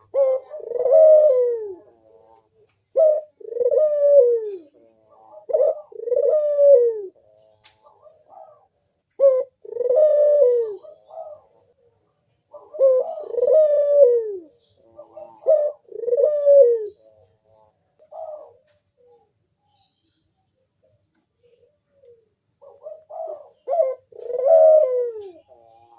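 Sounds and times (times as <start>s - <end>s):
dove cooing: 0.0s - 19.8s, 20.8s - 25.9s.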